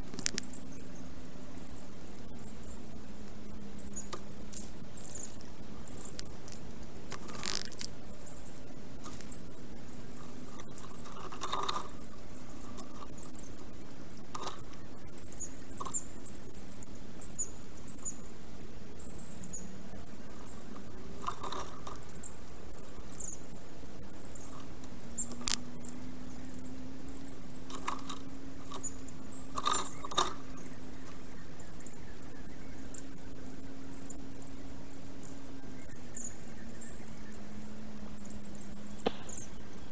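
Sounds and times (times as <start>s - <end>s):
faint low hum: 0.0s - 39.9s
high squeaky bird chirps: 3.7s - 39.9s.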